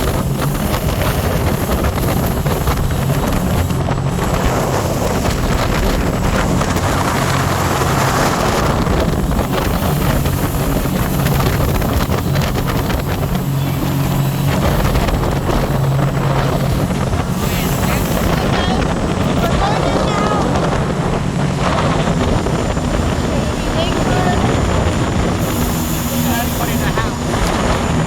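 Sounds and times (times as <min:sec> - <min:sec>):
jet boat engine running: 0:00.0 - 0:28.0
water rushing past: 0:00.0 - 0:28.0
wind buffeting microphone: 0:00.0 - 0:28.0.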